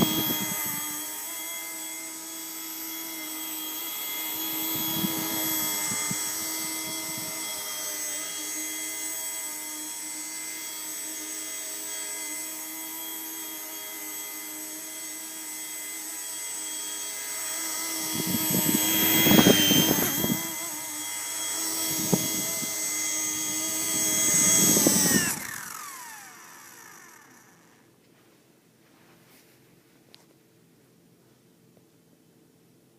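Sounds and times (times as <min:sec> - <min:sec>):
toy helicopter rotor whining: 0:00.0 - 0:27.9.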